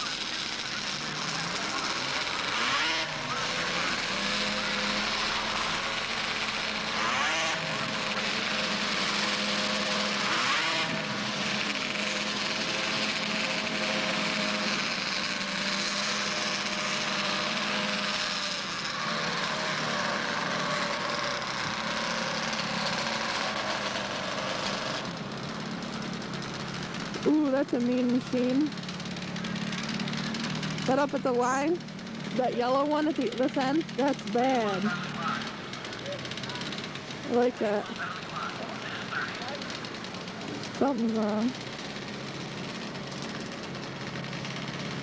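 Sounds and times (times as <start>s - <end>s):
snowmobile engines running hard: 0.0s - 45.0s.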